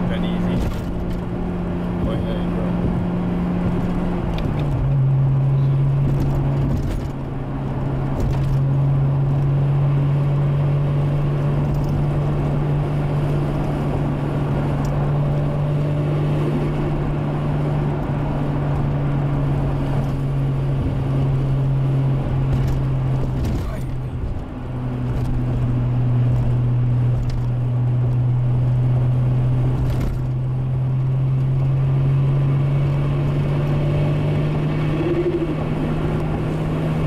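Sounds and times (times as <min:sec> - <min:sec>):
car engine droning: 0:00.0 - 0:37.0.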